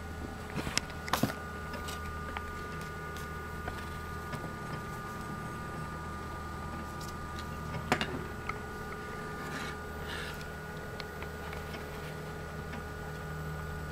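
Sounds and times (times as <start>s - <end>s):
steady electrical hum: 0.0s - 13.9s.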